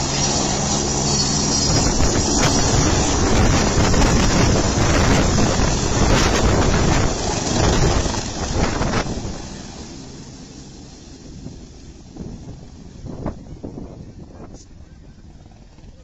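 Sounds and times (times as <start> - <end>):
helicopter rotor downwash rushing: 0.0 - 16.0.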